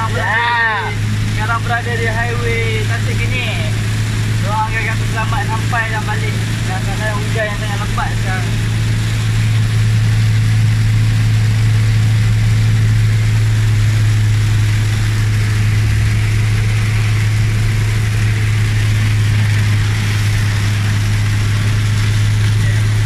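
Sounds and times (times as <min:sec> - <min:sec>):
car engine drone: 0:00.0 - 0:23.0
heavy rain on car roof: 0:00.0 - 0:23.0
tyres on wet road: 0:00.0 - 0:23.0.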